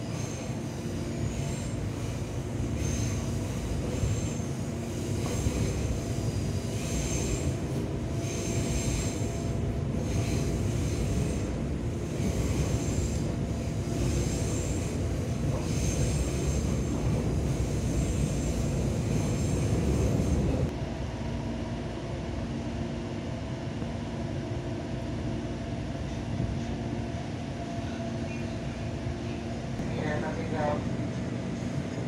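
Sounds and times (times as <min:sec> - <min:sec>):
train wheels rumbling on track: 0:00.0 - 0:20.9, 0:22.6 - 0:32.0.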